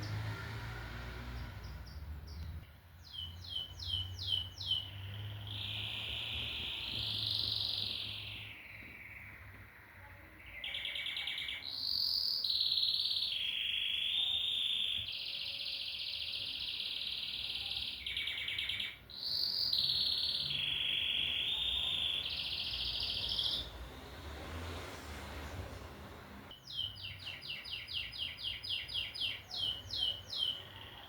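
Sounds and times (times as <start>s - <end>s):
canary singing trills: 0.0s - 24.0s, 26.5s - 31.0s.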